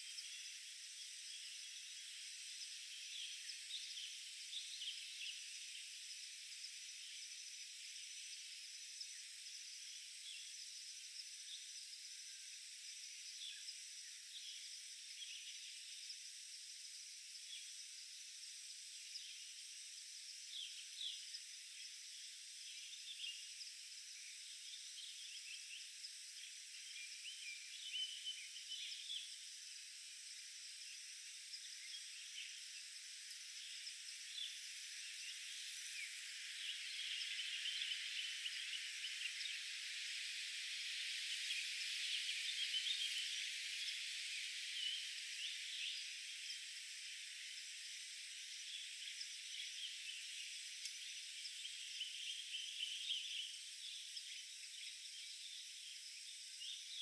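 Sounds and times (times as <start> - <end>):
bird and insect chirps: 0.0 - 57.0
high-pitched insect drone: 0.0 - 57.0.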